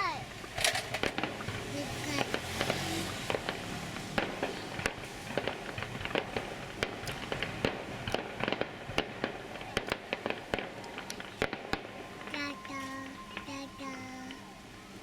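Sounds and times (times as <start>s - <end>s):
fireworks cracking and popping: 0.0s - 14.5s.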